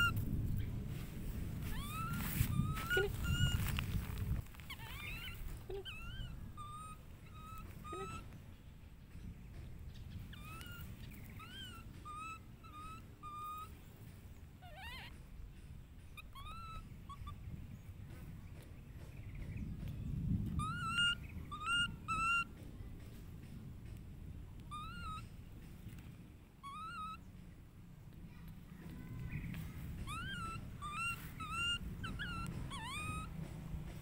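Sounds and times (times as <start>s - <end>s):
baby monkey coo calls: 0.0s - 0.8s, 1.6s - 8.8s, 9.8s - 18.7s, 19.3s - 24.0s, 24.6s - 27.5s, 28.8s - 34.0s
low rumble: 0.0s - 34.0s.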